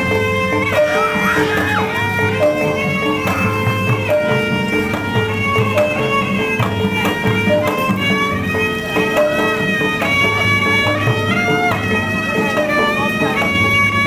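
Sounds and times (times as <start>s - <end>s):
bowed fiddle melody: 0.0s - 14.0s
percussion strikes: 0.0s - 14.0s.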